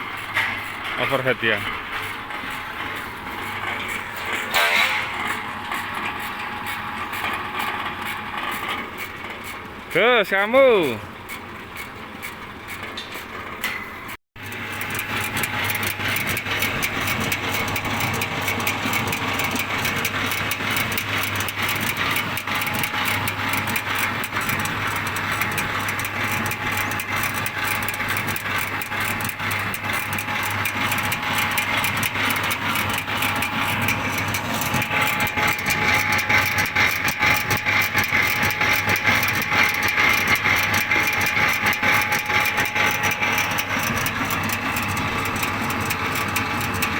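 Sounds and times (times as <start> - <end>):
pellet machine humming: 0.0 - 11.4, 14.4 - 46.9
rapid machine clatter: 0.1 - 11.4, 14.4 - 46.9.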